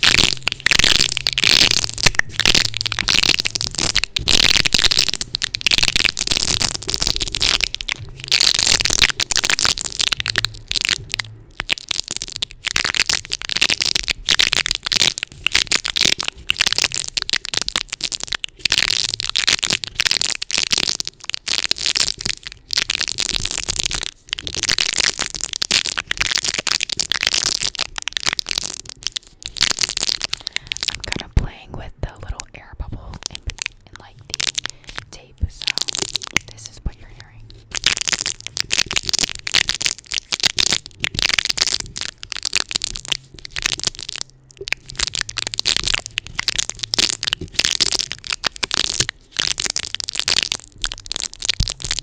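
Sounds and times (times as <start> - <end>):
tape crackling on microphone: 0.0 - 52.0.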